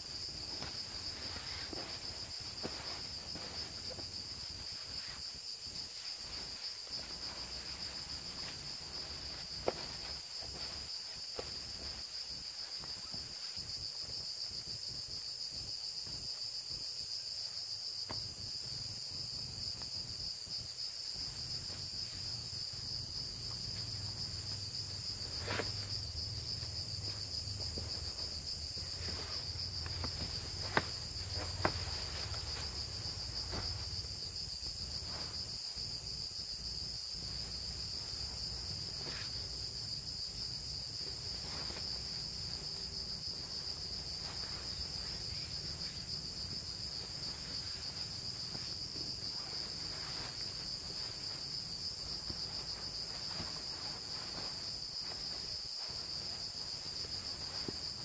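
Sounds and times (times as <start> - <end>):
nylon hammock rustling: 0.0 - 15.1, 19.3 - 58.0
night insects chorus: 0.0 - 58.0.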